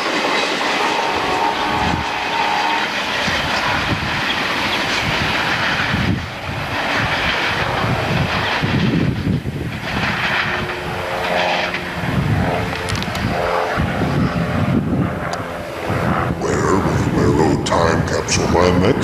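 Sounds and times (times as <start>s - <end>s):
train passing rumble: 0.0s - 19.0s.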